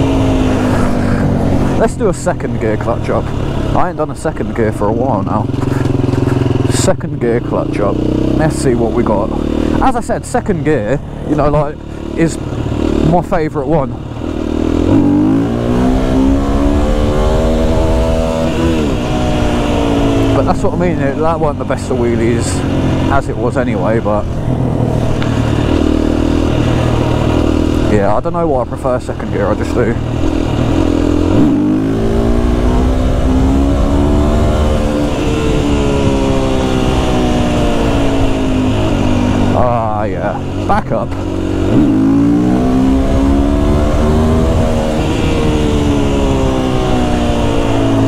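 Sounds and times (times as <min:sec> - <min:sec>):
motorcycle engine revving hard: 0:00.0 - 0:48.0.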